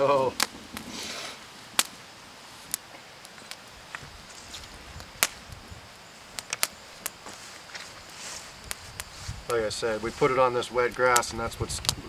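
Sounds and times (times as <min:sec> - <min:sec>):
sharp pops of fire: 0:00.0 - 0:12.0
twig fire crackling: 0:00.0 - 0:12.0.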